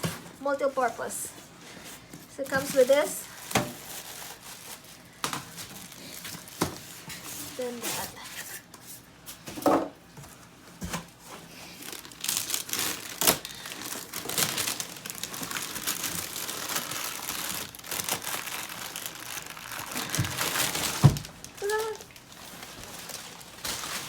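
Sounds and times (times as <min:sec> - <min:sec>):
packaging crinkling and rustling: 0:00.0 - 0:09.5, 0:10.2 - 0:24.0.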